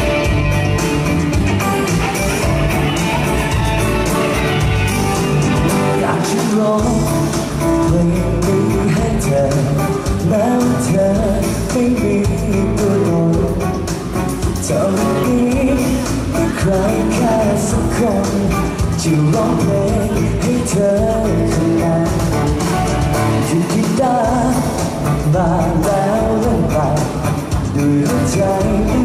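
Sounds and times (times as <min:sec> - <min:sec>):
electric guitar melody: 0:00.0 - 0:29.0
live pop-rock band playing: 0:00.0 - 0:29.0.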